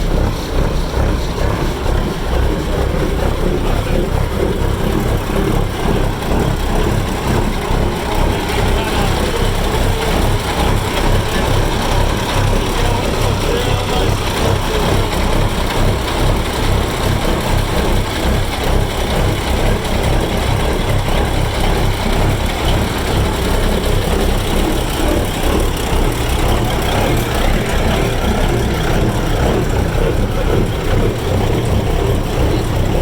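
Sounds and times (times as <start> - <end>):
diesel engines idling: 0.0 - 33.0.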